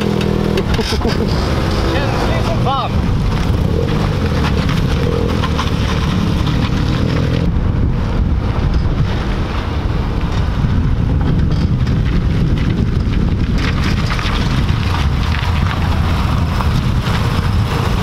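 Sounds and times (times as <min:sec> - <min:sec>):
car engine running: 0:00.0 - 0:18.0
wind rumble on microphone: 0:00.0 - 0:18.0.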